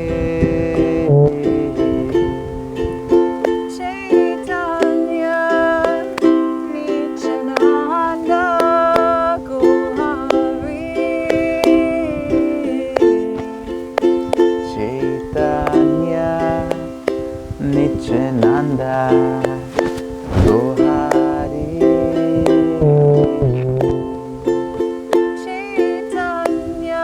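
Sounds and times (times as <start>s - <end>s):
ukulele strumming: 0.0s - 27.0s.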